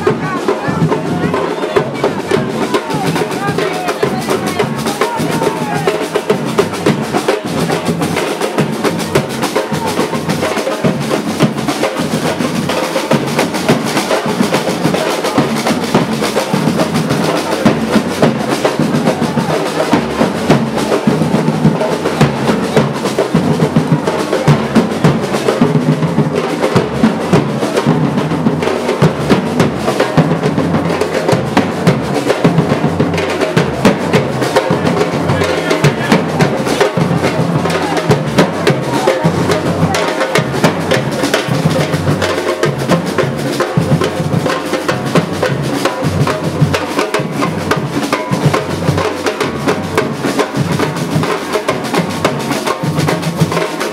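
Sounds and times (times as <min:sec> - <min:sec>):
loud continuous drumming: 0:00.0 - 0:53.9.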